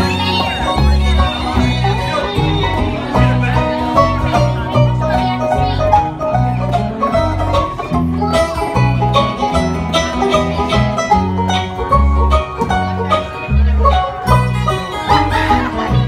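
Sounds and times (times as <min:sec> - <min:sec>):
acoustic guitar: 0:00.0 - 0:16.0
bass line: 0:00.0 - 0:16.0
fiddle: 0:00.0 - 0:16.0.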